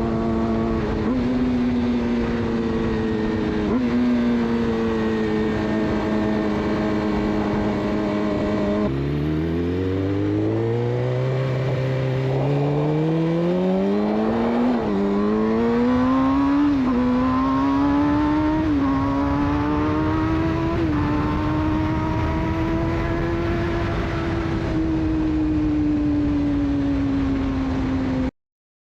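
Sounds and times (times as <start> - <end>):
motorcycle engine accelerating: 0.0 - 28.3.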